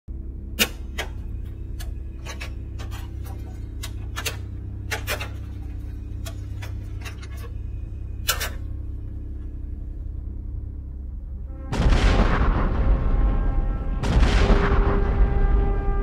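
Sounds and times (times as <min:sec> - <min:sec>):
low drone: 0:00.1 - 0:16.0.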